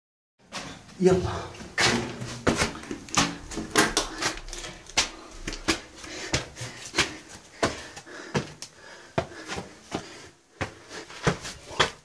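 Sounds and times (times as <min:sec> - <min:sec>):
footsteps scuffing on stone floor: 0:00.5 - 0:08.6, 0:09.2 - 0:12.0.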